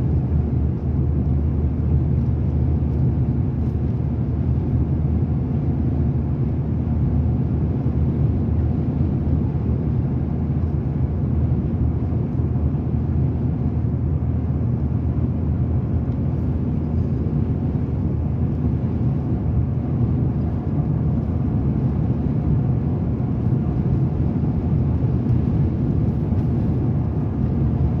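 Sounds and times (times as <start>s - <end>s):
moving vehicle rumble: 0.0s - 28.0s.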